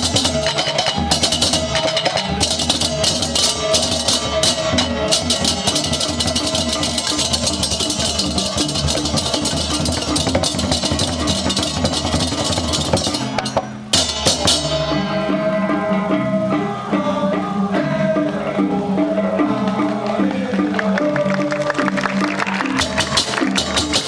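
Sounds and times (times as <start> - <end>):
music with drums and percussion: 0.0 - 16.2, 19.6 - 24.0.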